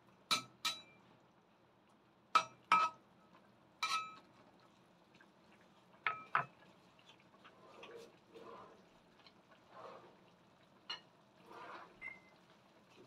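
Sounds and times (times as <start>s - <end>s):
faint simmer: 0.0s - 13.0s.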